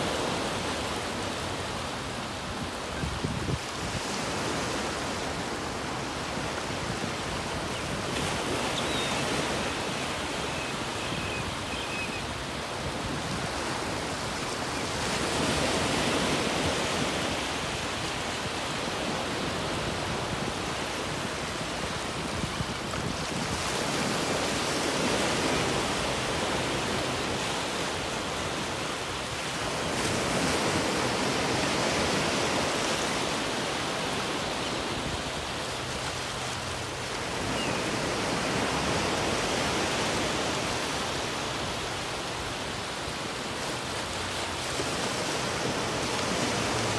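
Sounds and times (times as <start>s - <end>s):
ocean waves washing up beach: 0.0s - 46.9s.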